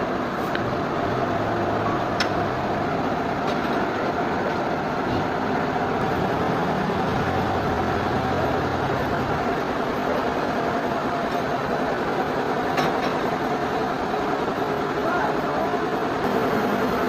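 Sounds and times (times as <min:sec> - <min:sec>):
sawmill machinery humming: 0:00.0 - 0:17.0.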